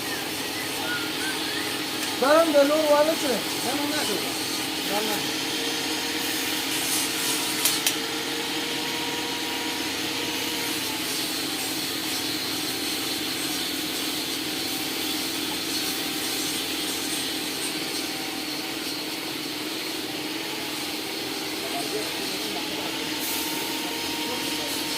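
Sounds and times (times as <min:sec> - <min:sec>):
workshop machine whirring: 0:00.0 - 0:24.9.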